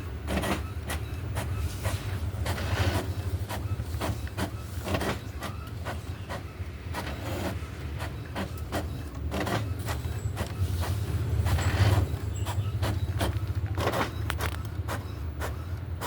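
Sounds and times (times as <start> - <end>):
inkjet printer running: 0.0 - 16.0.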